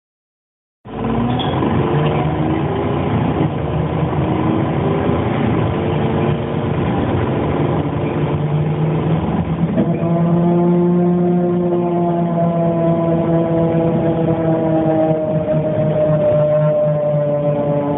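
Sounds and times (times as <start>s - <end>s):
bus engine running: 0.9s - 17.9s.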